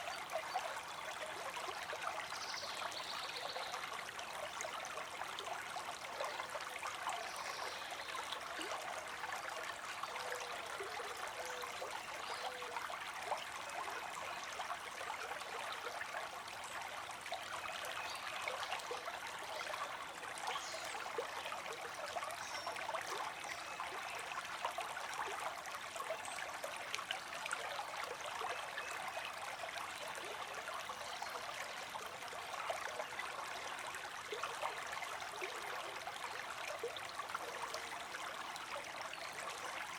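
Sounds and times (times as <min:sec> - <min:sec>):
creek water babbling over stones: 0:00.0 - 0:39.9.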